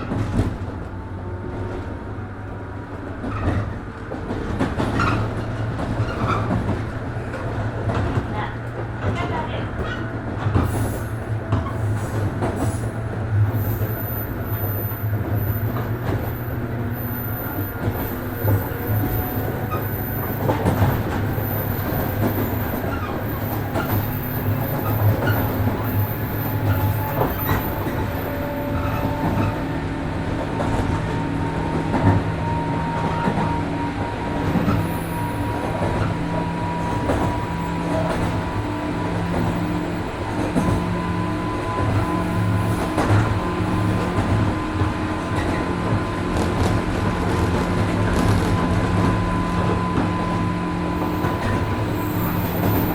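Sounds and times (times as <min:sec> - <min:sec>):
train motor and gear hum: 0:00.0 - 0:52.9.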